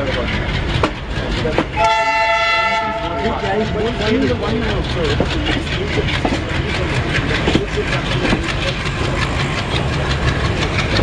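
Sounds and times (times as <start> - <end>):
diesel locomotive engine chugging: 0.0 - 11.0.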